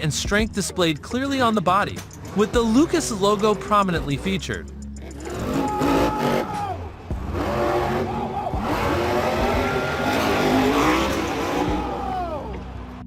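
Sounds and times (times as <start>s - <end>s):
monster truck engine revving: 2.0s - 12.9s.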